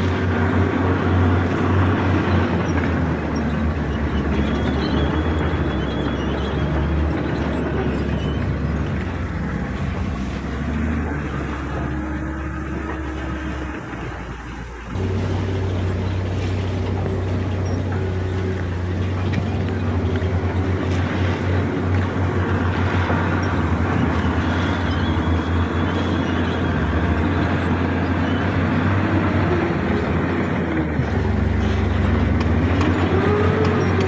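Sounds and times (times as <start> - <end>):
bulldozer diesel engine droning: 0.0 - 34.0.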